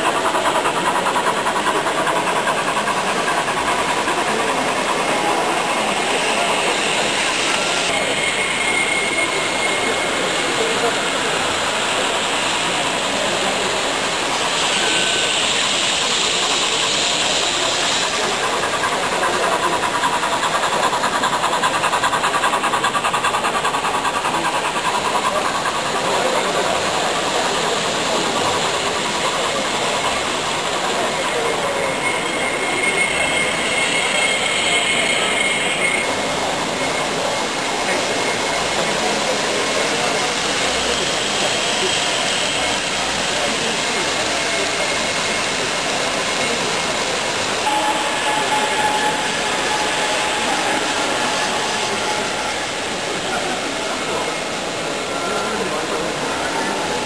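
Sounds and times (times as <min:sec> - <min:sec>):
crowd chatter: 0:00.0 - 0:57.0
model trains rolling clatter: 0:00.0 - 0:57.0.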